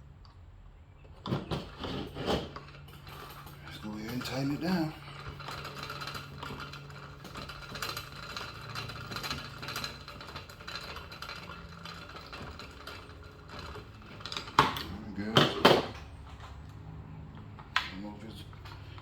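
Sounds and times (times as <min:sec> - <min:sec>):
small metal clicks and scrapes: 0:01.4 - 0:19.0.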